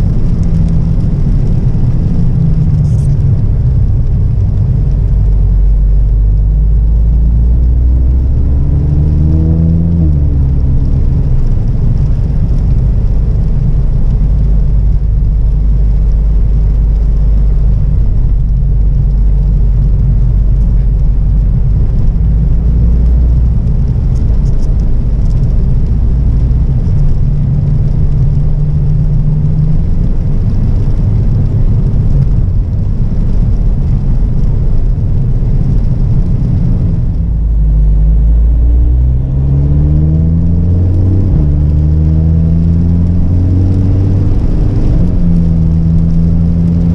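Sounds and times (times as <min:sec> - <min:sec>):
car engine drone: 0:00.0 - 0:46.9
road noise: 0:00.0 - 0:46.9.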